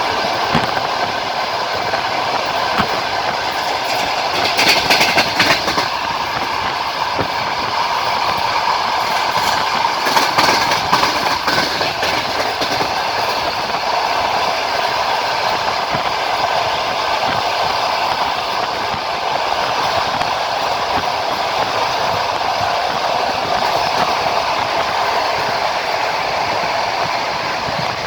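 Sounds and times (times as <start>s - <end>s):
train wheels rolling on rail: 0.0s - 28.0s
wheels clicking over rail joints: 0.0s - 28.0s.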